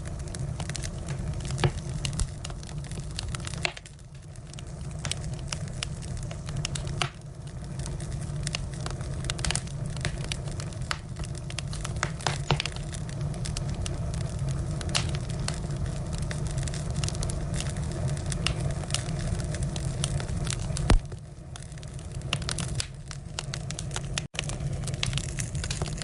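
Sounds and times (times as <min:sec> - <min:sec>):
firewood crackling and popping: 0:00.0 - 0:26.0
steady low rumble: 0:00.0 - 0:26.0.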